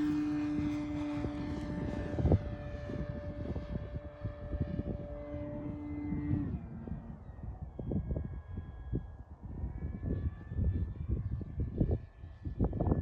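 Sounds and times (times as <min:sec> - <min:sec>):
model plane propeller drone: 0:00.0 - 0:13.0
wind buffeting microphone: 0:00.0 - 0:13.0.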